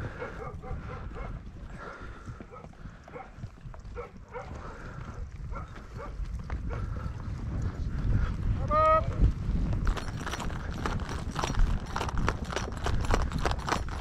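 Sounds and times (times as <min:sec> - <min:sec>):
horse hoofbeats on dry ground: 0:00.0 - 0:14.0.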